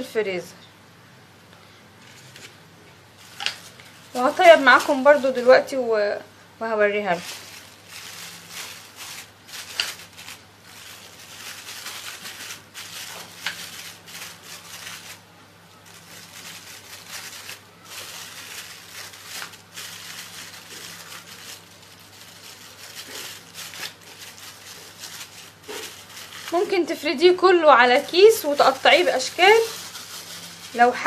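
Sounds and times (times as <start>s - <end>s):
faint steady hum: 0.0s - 31.0s
plastic bag crinkling: 2.0s - 31.0s.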